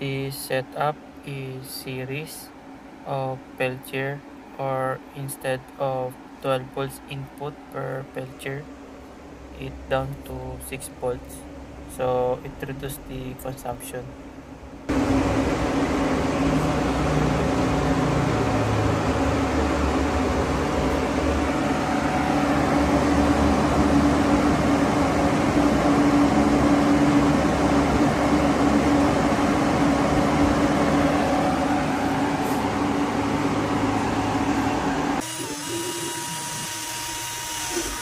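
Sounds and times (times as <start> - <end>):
constant low hum: 0.0 - 38.0
fans and pump whirring: 0.0 - 38.0.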